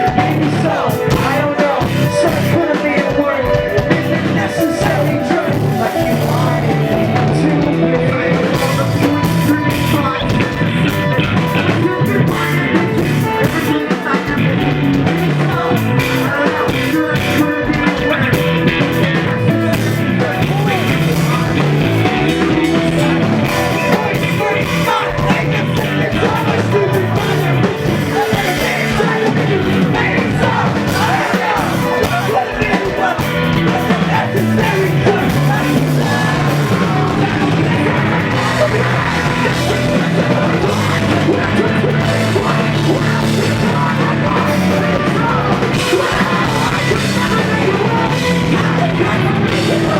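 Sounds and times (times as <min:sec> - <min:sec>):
rock band playing live: 0:00.0 - 0:49.9
vocals: 0:00.0 - 0:49.9.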